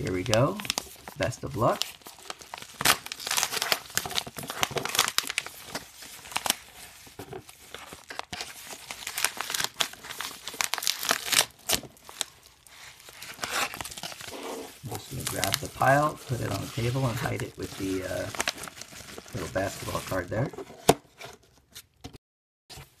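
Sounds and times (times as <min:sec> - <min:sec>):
padded mailer tearing open: 0:00.0 - 0:06.8, 0:07.5 - 0:20.5.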